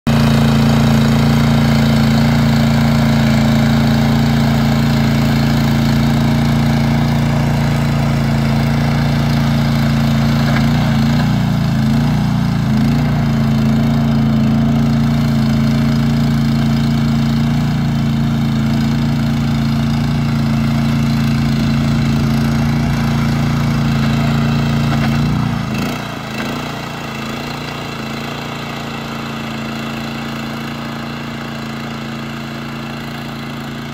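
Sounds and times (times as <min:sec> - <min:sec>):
power harrow through soil: 0:00.1 - 0:33.9
tractor engine running: 0:00.1 - 0:33.9.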